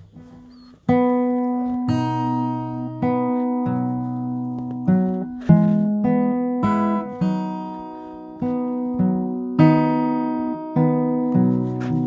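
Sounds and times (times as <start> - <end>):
strummed acoustic guitar chords: 0.0 - 12.0.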